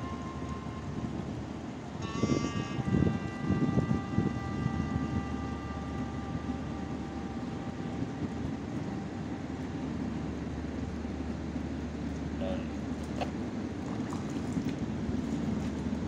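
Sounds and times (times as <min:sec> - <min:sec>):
low machinery rumble: 0:00.0 - 0:16.0.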